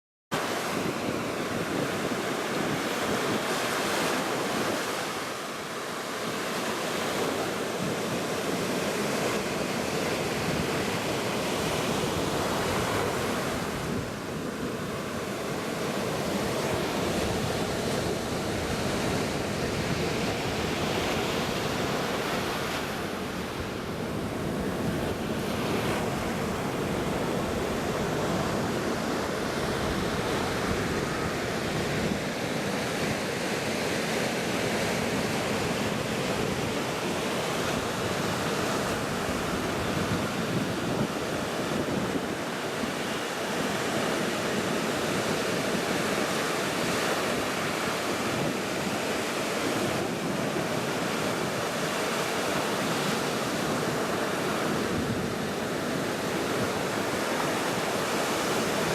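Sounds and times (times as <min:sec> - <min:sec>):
waves washing onto sandy beach: 0:00.4 - 0:58.9
wind on microphone: 0:00.4 - 0:58.9.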